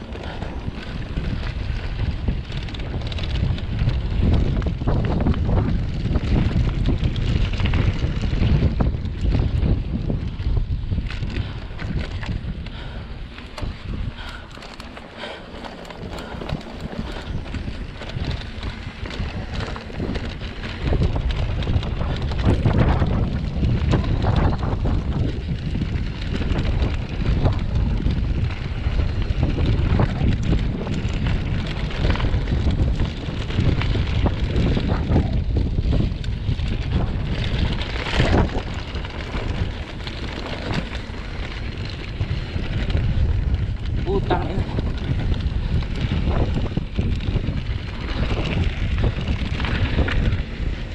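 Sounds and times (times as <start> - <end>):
bike clicks and rattles: 0.0 - 50.9
tyres rolling over loose dirt: 0.0 - 50.9
wind buffeting microphone: 0.0 - 50.9.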